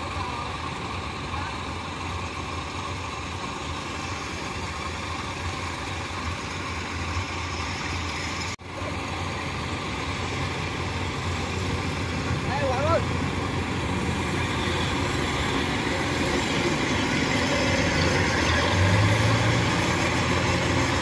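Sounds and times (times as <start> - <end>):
farm machinery engines running: 0.0 - 21.0.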